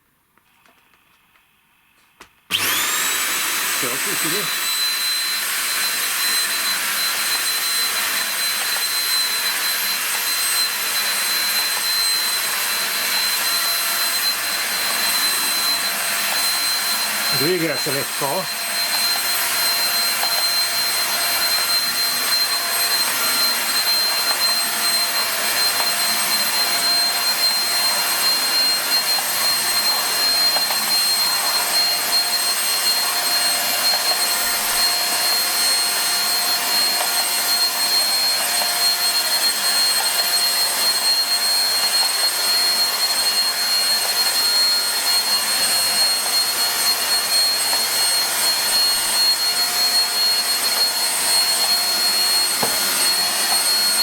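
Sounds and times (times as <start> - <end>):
vacuum cleaner running: 2.5 - 54.0.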